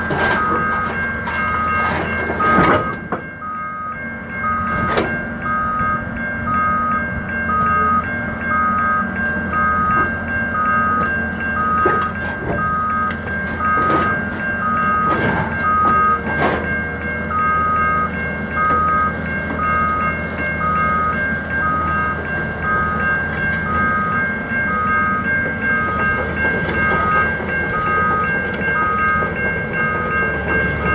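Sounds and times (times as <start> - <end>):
back-up alarm beeping: 0.1 - 30.9.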